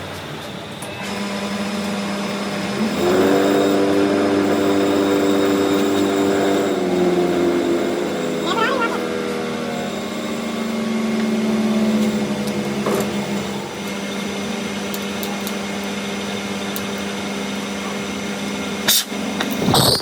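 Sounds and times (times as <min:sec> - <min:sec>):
machine motor humming: 0:00.6 - 0:20.0.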